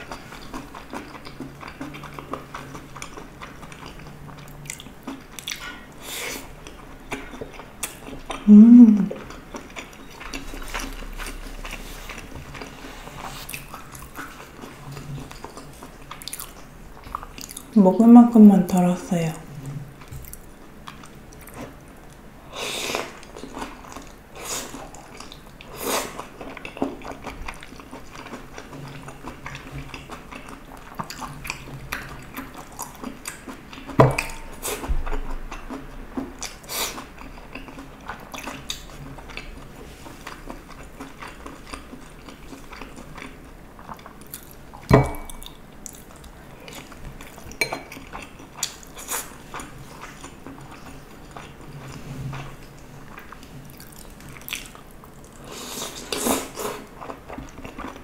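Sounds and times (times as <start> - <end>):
chewing and mouth sounds: 0.0 - 17.8, 19.4 - 22.3, 22.9 - 58.0.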